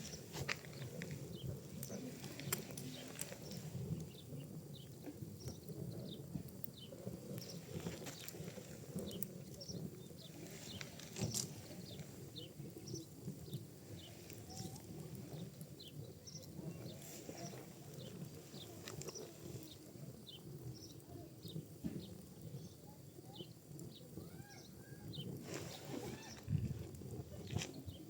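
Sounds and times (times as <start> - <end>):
fire crackling with sharp pops: 0.0 - 28.0
fire rumbling: 0.0 - 28.0.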